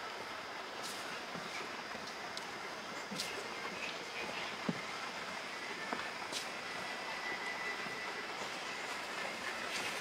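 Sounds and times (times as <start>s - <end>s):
city background noise: 0.0s - 10.0s.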